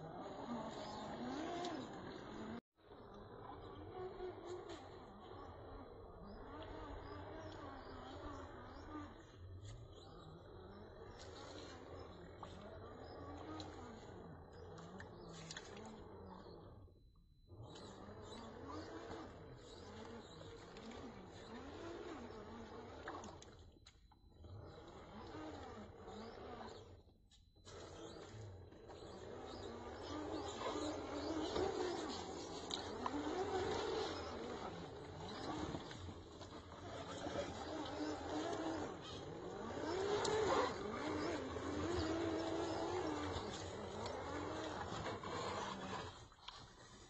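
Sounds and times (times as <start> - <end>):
electric motor whining: 0.0 - 16.9, 17.5 - 23.7, 24.4 - 47.0.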